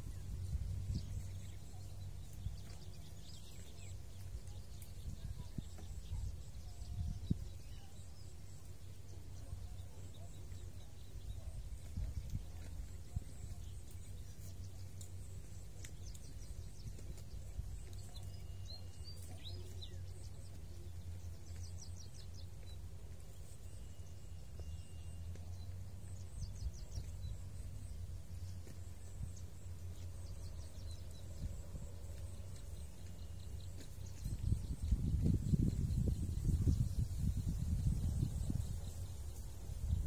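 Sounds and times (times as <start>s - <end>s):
small birds chirping: 0.0s - 40.0s
steady low rumble: 0.0s - 40.0s.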